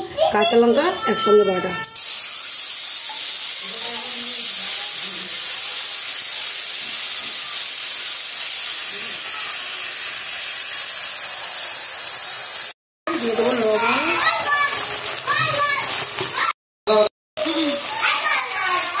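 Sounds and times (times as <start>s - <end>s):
paste sizzling in hot oil: 2.0s - 16.6s, 17.4s - 19.0s.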